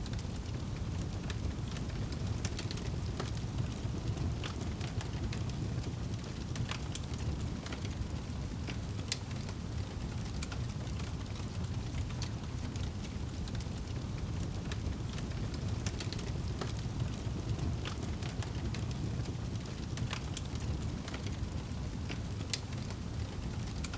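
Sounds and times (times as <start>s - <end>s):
low fire rumble: 0.0s - 23.9s
wood fire crackling: 0.0s - 23.9s.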